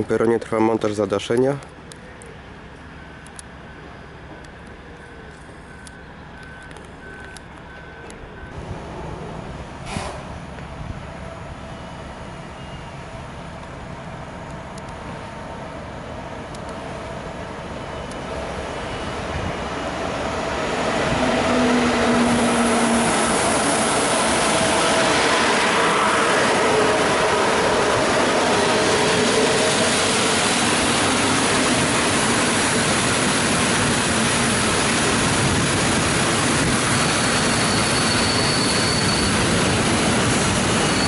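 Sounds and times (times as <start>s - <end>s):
train rumble and rail noise: 0.0s - 41.0s.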